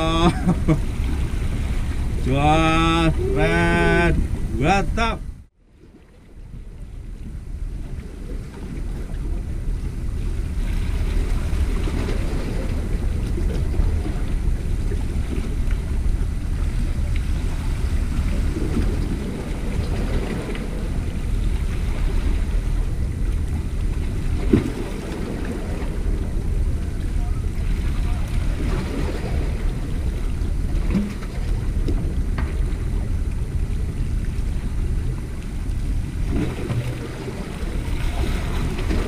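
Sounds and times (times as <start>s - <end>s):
waves washing against rocks: 0.0s - 5.2s, 7.7s - 39.0s
wind buffeting microphone: 0.0s - 39.0s.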